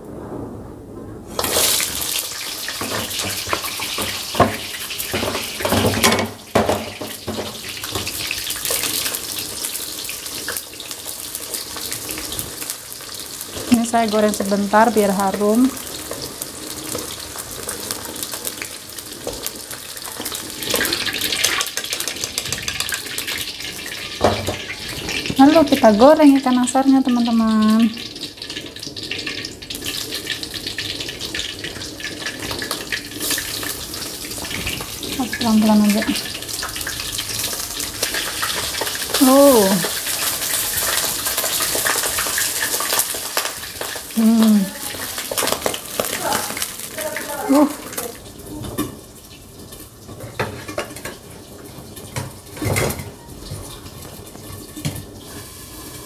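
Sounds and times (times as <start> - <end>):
fish frying in hot oil: 1.3 - 56.0.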